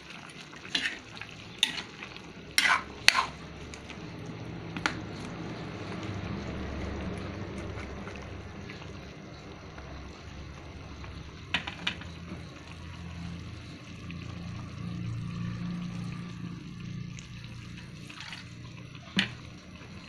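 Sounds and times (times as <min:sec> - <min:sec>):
food simmering in a wok: 0:00.0 - 0:20.0.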